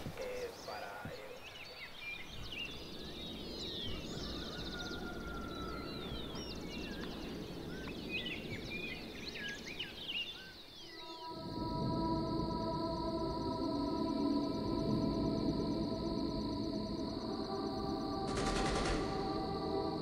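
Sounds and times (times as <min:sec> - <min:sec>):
wild birds chirping and whistling: 0:00.0 - 0:20.0.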